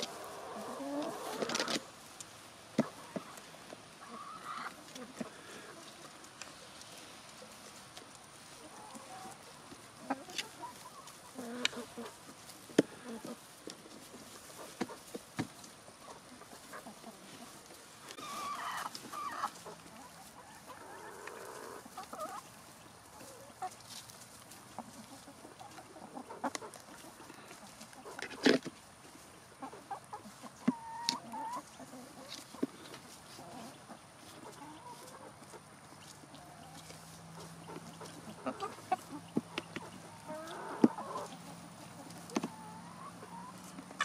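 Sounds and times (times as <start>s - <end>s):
chickens clucking softly: 0.0s - 44.0s.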